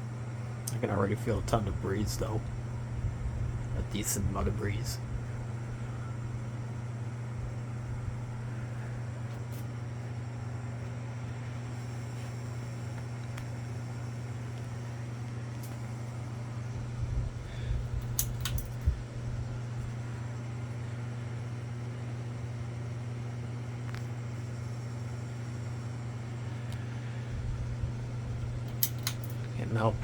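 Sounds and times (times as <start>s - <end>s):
ceiling fan buzzing hum: 0.0s - 30.0s.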